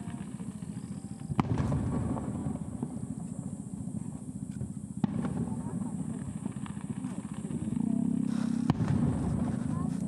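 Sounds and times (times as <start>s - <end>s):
firework bursting with a bang: 0.0s - 3.6s, 4.2s - 9.9s.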